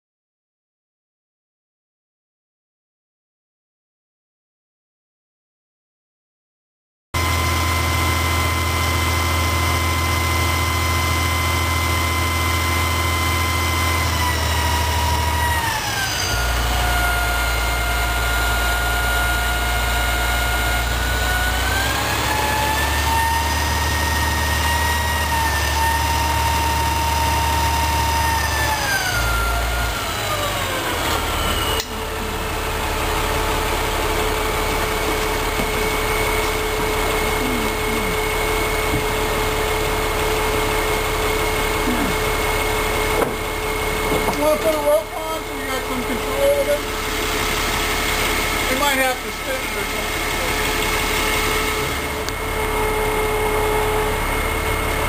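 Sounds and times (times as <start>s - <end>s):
crane engine rumbling: 7.2s - 55.0s
engine whine: 7.2s - 55.0s.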